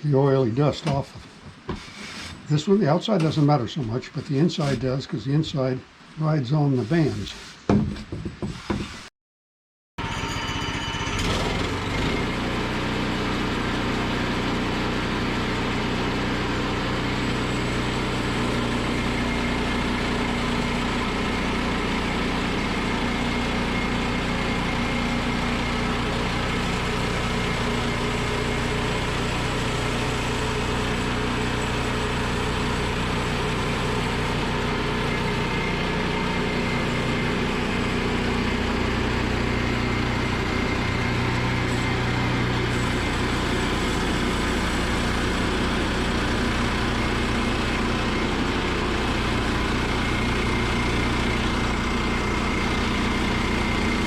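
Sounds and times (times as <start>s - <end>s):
small gasoline engine running: 10.0s - 54.0s.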